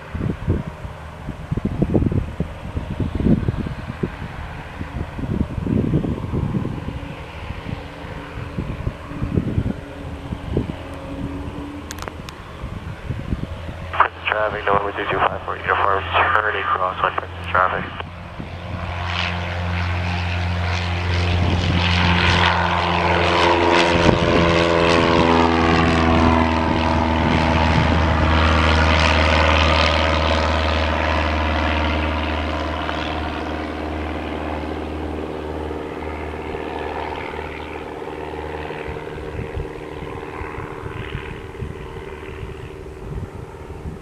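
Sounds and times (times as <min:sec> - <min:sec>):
propeller plane passing by: 0:00.0 - 0:44.0.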